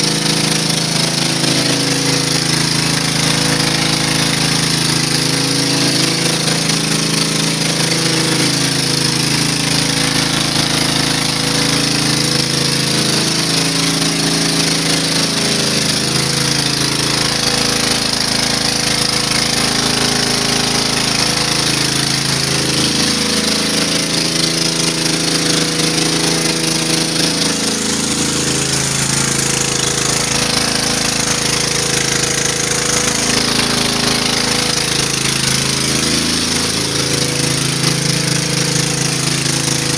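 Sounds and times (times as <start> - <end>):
pressure washer running: 0.0 - 39.9
water jets spraying on concrete: 0.0 - 39.9.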